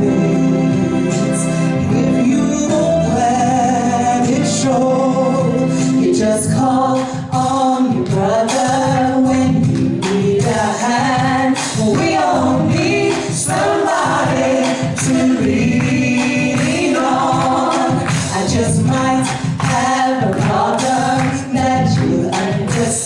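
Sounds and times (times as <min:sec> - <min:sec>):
musical accompaniment: 0:00.0 - 0:23.0
two women singing: 0:01.9 - 0:23.0.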